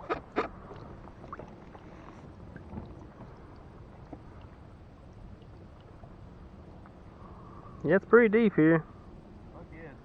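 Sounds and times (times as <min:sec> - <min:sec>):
faint low rumble: 0:00.0 - 0:08.2.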